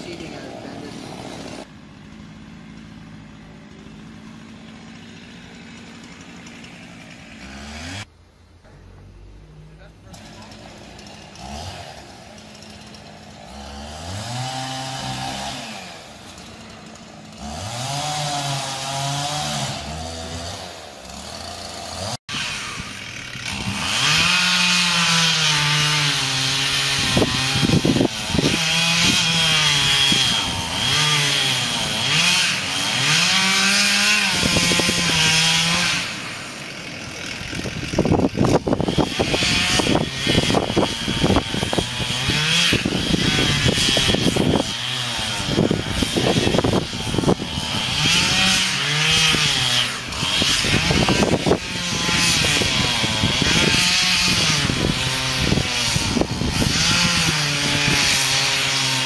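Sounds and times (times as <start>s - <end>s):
chainsaw cutting tree trunk: 0.0s - 8.1s, 9.8s - 59.0s.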